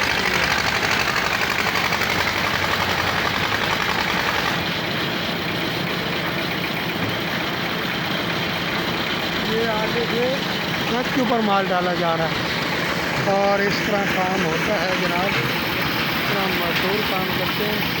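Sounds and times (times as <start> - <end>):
concrete mixer engine rattling: 0.0 - 18.0.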